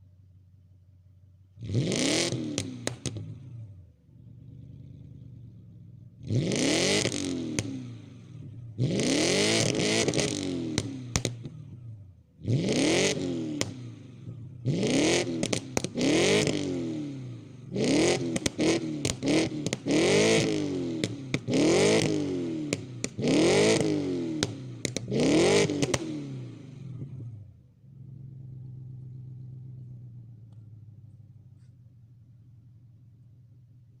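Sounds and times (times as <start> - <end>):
exhaust crackles: 1.4 - 34.0
car engine revving: 1.5 - 33.1.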